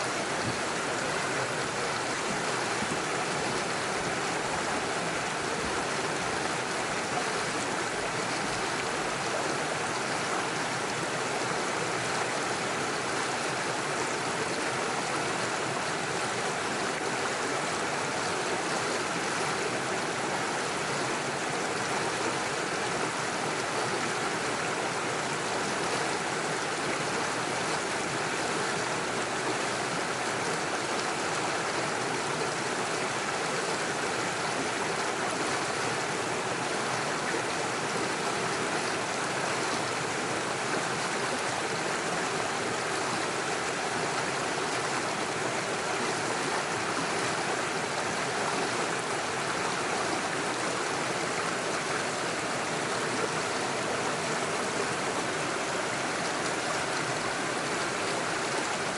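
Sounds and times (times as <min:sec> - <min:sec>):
stream rushing over stones: 0:00.0 - 0:58.9.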